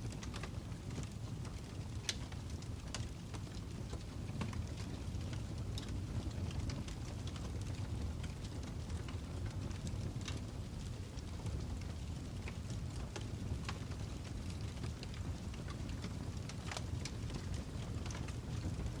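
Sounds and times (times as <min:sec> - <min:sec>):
campfire crackling and popping: 0:00.0 - 0:19.0
campfire rumbling: 0:00.0 - 0:19.0.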